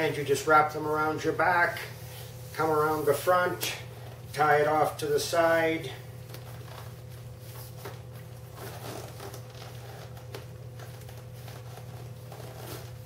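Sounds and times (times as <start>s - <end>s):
steady low hum: 0.0s - 13.0s
apron ties rustling: 0.6s - 13.0s.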